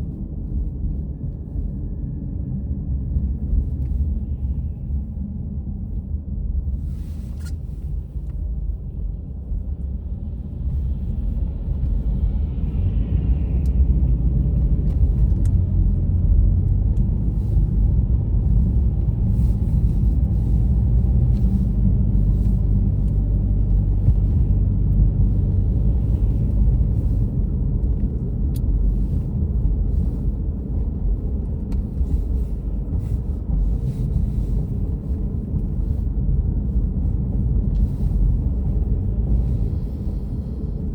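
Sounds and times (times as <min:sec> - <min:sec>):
car engine and tyre noise: 0:00.0 - 0:40.9.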